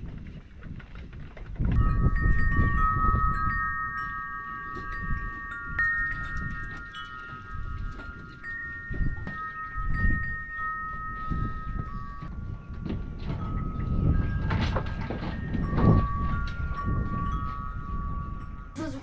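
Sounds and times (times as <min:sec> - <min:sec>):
wind chimes ringing: 0:01.8 - 0:19.0.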